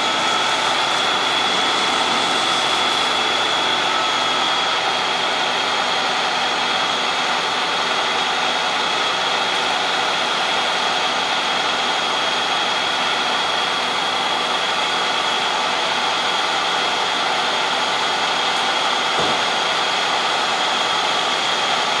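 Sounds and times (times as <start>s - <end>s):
fire engine pump drone: 0.0s - 22.0s
steady high whine: 0.0s - 22.0s.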